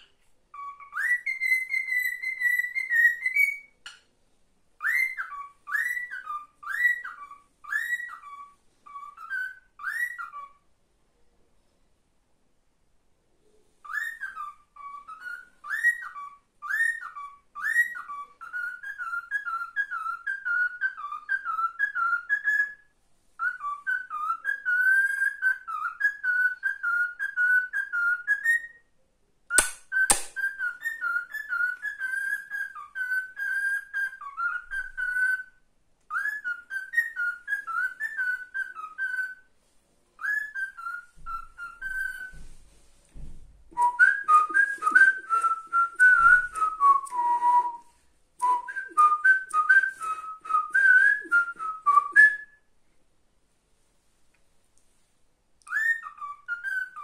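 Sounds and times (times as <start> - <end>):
cockatiel whistling a tune: 0.0 - 3.9, 4.8 - 10.7, 13.8 - 28.9, 29.5 - 39.5, 40.2 - 42.6, 43.7 - 52.7, 55.6 - 57.0.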